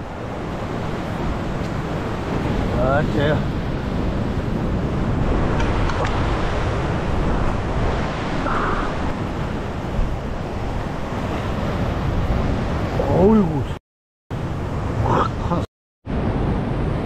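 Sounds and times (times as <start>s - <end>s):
wind on microphone: 0.0s - 13.8s
ocean surf: 0.0s - 17.0s.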